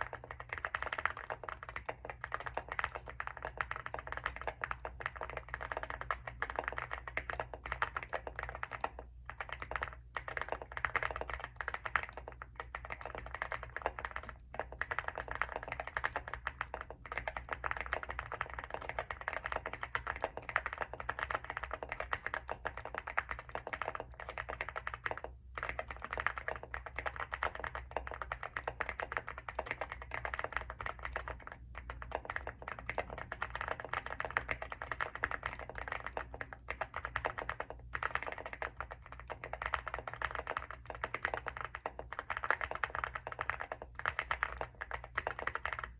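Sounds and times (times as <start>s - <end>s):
fast typing on mechanical keyboard: 0.0s - 45.9s.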